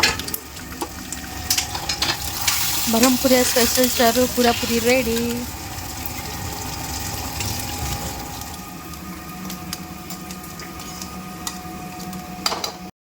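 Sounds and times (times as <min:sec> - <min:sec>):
kitchen appliance humming: 0:00.0 - 0:12.9
faint steady whine: 0:00.8 - 0:12.8.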